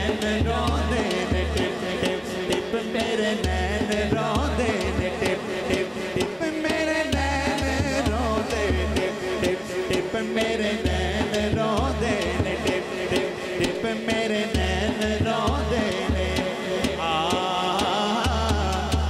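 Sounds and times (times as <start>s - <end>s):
frame drum beat: 0.0s - 19.0s
person singing over loudspeakers: 0.0s - 19.0s.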